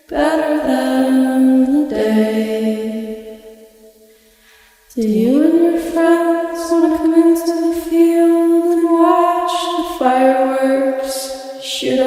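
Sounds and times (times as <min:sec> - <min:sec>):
woman singing unaccompanied: 0:00.0 - 0:03.5, 0:04.9 - 0:12.0.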